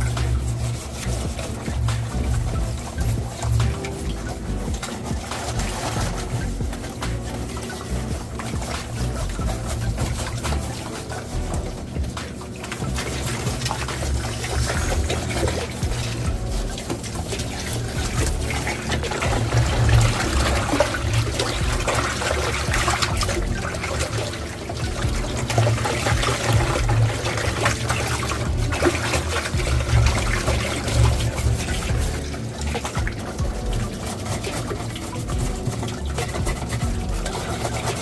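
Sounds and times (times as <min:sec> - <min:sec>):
water running and splashing: 0:00.0 - 0:38.0.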